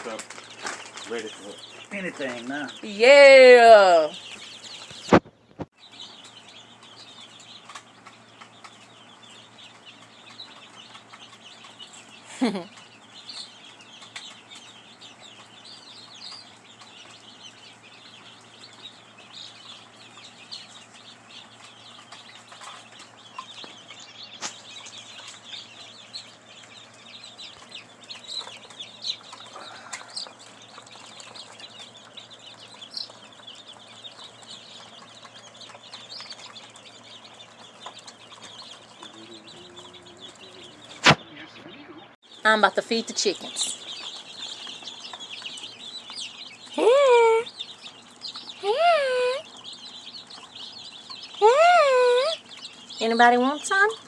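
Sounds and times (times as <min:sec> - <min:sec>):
chickens and chicks peeping and clucking: 0:00.0 - 0:54.0.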